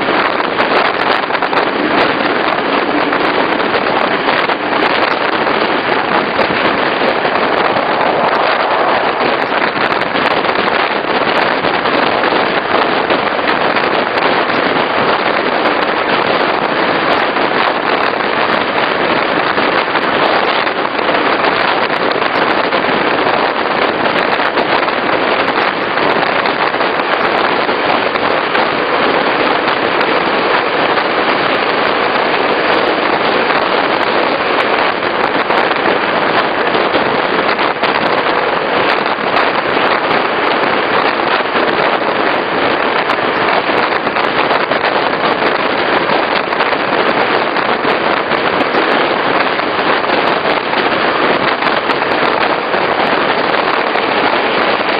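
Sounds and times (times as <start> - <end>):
train running noise: 0.0 - 54.9.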